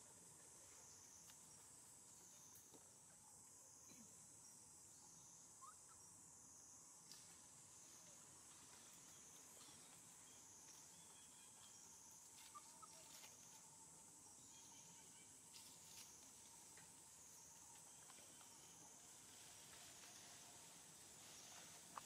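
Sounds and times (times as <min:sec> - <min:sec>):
faint insect buzz: 0:00.0 - 0:22.0.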